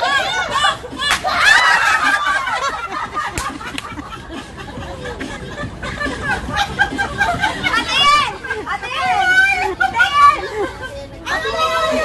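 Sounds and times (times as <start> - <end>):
mixed chatter: 0.0 - 12.0
people laughing: 0.0 - 12.0.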